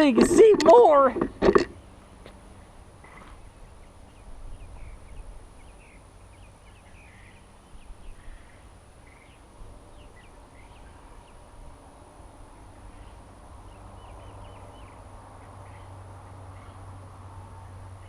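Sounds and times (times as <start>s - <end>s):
birds chirping faintly: 0.0s - 18.0s
low outdoor rumble: 0.0s - 18.0s.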